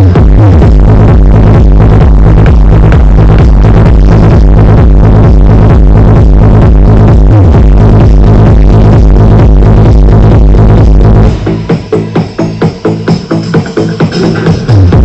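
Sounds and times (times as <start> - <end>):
electronic dance music with heavy bass: 0.0 - 15.0.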